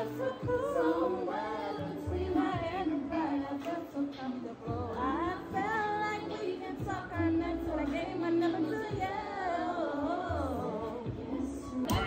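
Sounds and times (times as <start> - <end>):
woman singing over low bass: 0.0 - 12.0.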